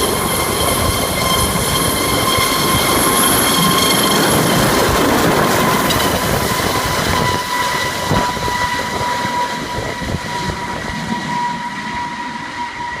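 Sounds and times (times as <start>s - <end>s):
helicopter taking off: 0.0s - 13.0s.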